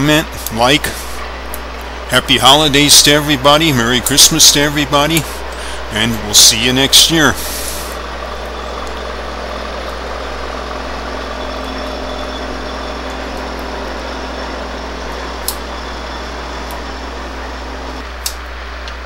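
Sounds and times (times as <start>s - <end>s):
locomotive engine droning: 0.0s - 19.0s.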